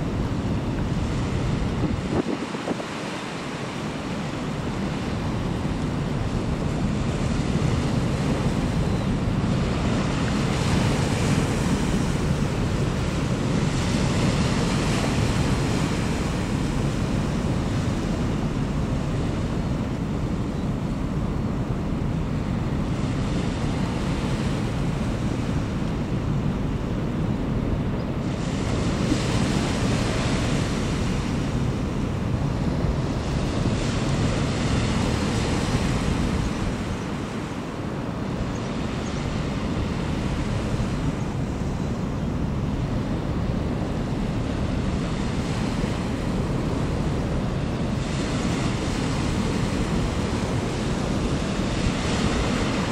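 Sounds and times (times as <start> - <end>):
waves washing on stony shore: 0.0 - 52.9
wind buffeting microphone: 0.0 - 52.9.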